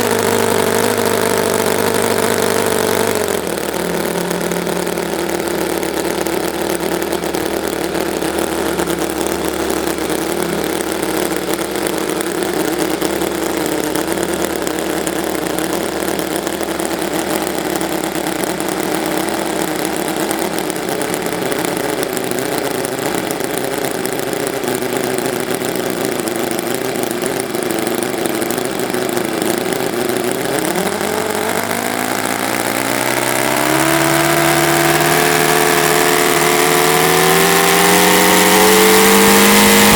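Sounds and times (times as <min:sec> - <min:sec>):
model engine with propeller running: 0:00.0 - 0:39.9.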